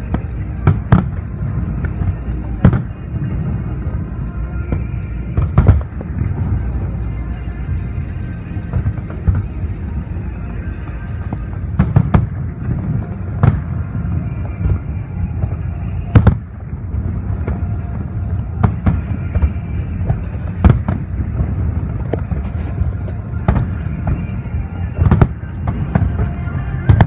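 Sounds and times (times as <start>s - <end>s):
fireworks booming: 0.0s - 10.0s, 10.6s - 27.0s
background music: 0.0s - 27.0s.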